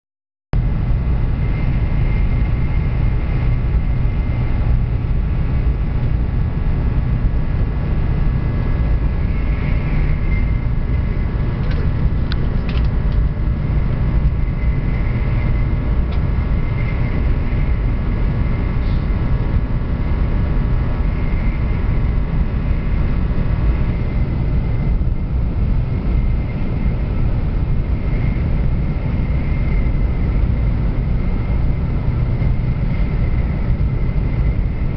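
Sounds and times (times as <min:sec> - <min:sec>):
faint steady whine: 0:00.6 - 0:34.9
train rumbling: 0:00.6 - 0:34.9.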